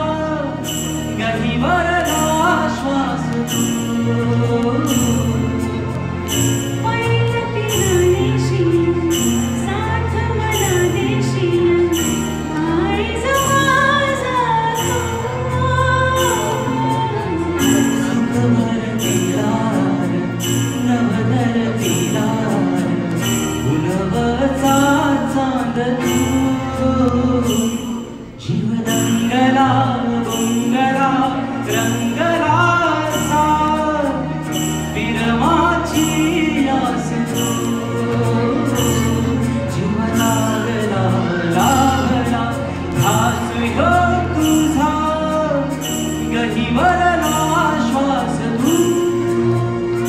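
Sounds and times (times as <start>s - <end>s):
keyboard: 0.0s - 50.0s
man singing: 0.0s - 50.0s.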